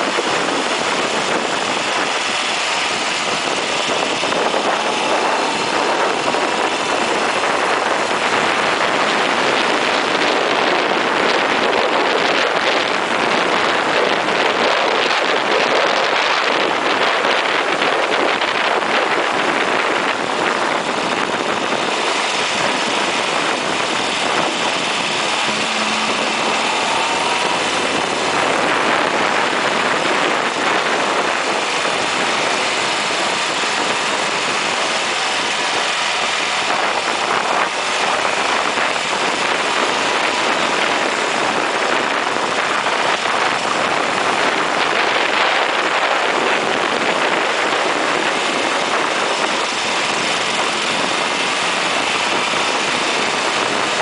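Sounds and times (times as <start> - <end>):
car engine at speed: 0.0 - 54.0
wind rushing over camera: 0.0 - 54.0.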